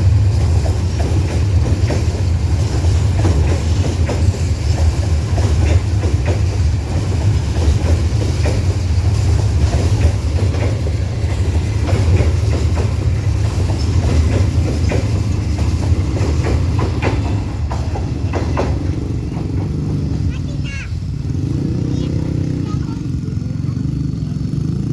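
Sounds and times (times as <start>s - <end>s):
train wagons rumbling past: 0.0s - 24.9s
wheels clattering over rail joints: 0.0s - 24.9s.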